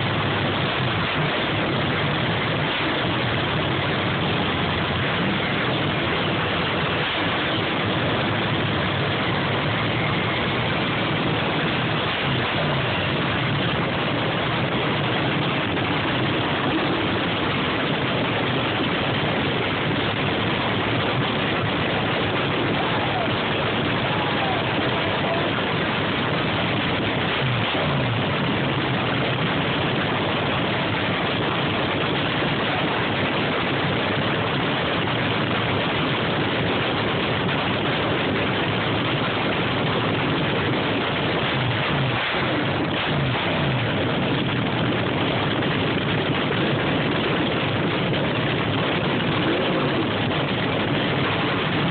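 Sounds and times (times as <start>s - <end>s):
dragster engine cackling at idle: 0.0s - 51.9s.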